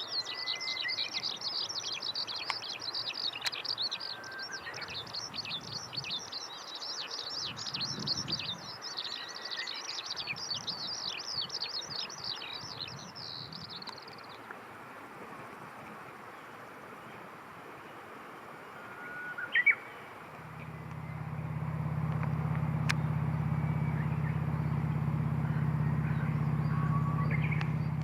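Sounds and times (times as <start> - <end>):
small birds chirping: 0.0 - 14.6, 19.4 - 28.0
outdoor background hiss: 0.0 - 28.0.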